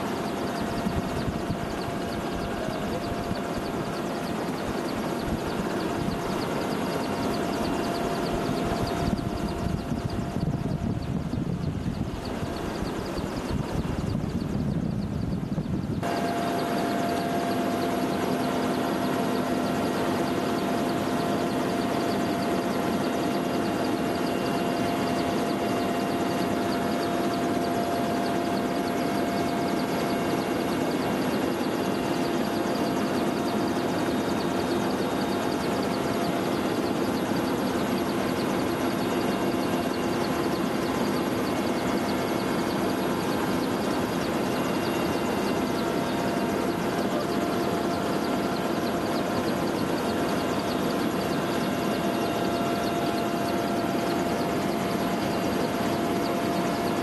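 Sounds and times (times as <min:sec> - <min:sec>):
constant whining tones: 0:00.0 - 0:57.0
helicopter engine and rotor din: 0:00.0 - 0:57.0.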